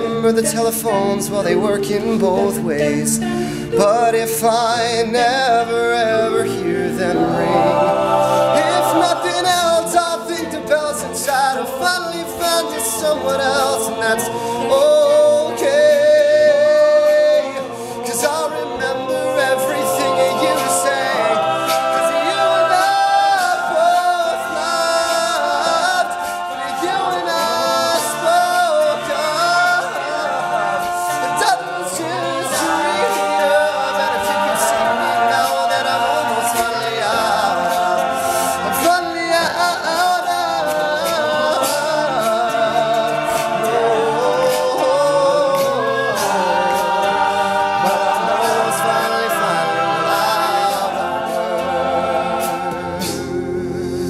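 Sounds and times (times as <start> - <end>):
male group singing in harmony: 0.0 - 54.0.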